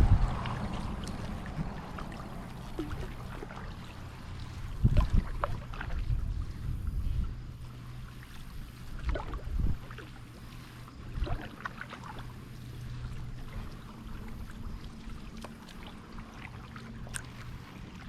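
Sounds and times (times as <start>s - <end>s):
paddle splashing in water: 0.0s - 18.0s
steady low hum: 0.0s - 18.0s.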